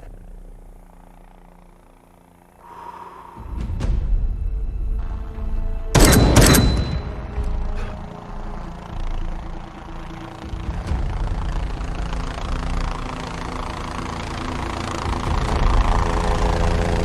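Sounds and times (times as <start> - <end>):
helicopter engine and rotor rumble: 0.0 - 17.0.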